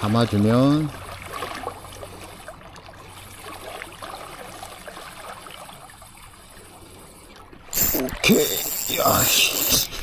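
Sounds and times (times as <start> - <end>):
small waves lapping against rocks: 0.0 - 10.0.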